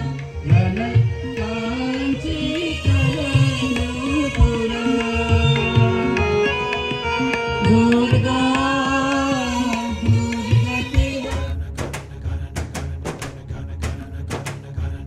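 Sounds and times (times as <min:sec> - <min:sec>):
tabla and drum strokes: 0:00.0 - 0:15.0.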